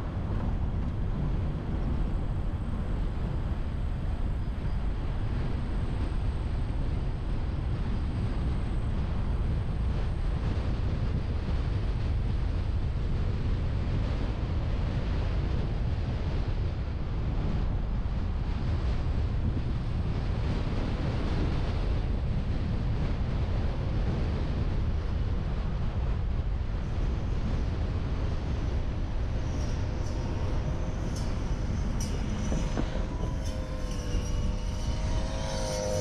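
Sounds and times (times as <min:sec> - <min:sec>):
road and tyre noise: 0:00.0 - 0:36.0
wind on microphone: 0:00.0 - 0:36.0.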